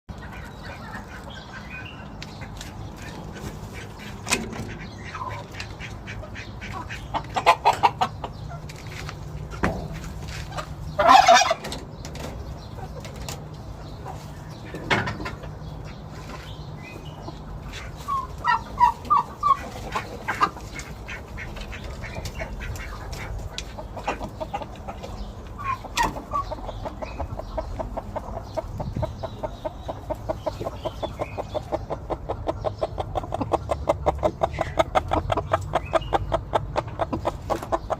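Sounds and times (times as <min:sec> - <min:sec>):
chickens clucking: 0:00.1 - 0:37.9.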